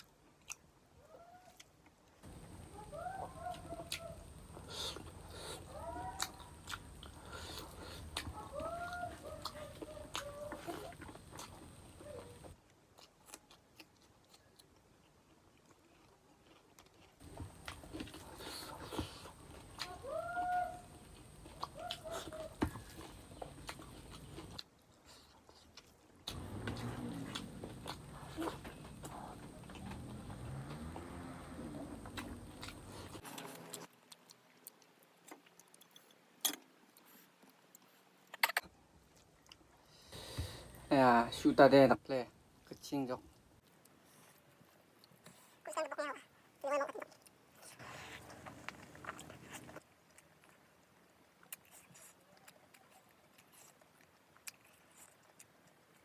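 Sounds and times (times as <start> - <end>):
person chewing food: 1.4 - 40.9, 47.0 - 56.0.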